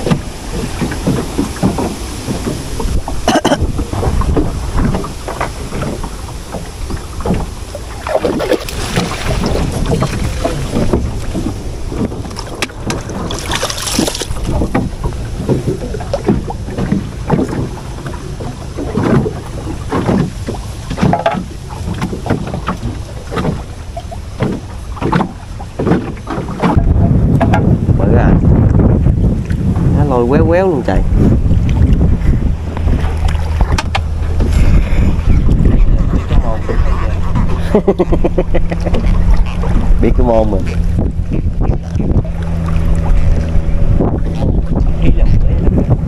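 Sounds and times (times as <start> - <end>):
water sloshing against boat hull: 0.0 - 46.0
wind rumbling on microphone: 0.0 - 46.0.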